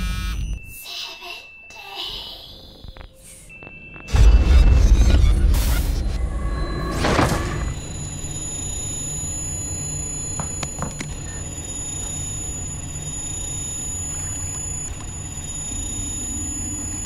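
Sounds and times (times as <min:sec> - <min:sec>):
high-pitched whine: 0:01.5 - 0:17.0
low hum: 0:02.8 - 0:17.0.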